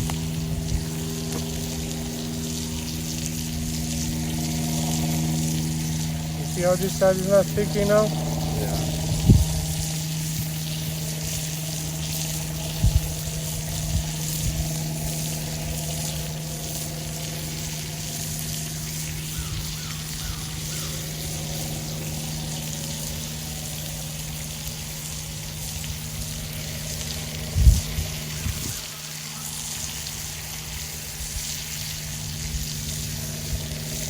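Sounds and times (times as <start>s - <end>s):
low hum: 0.0s - 34.0s
patties sizzling over coals: 0.0s - 34.0s.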